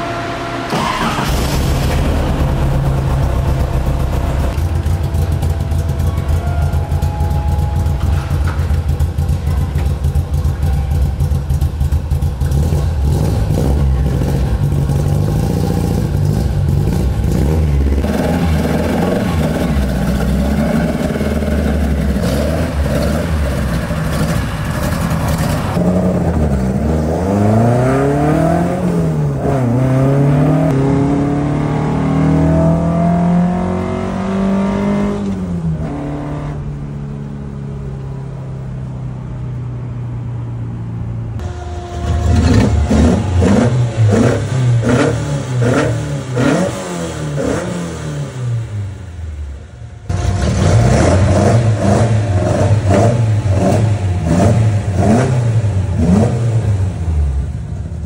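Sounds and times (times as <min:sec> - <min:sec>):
race car engine revving: 0:00.0 - 0:49.2, 0:50.0 - 0:58.0.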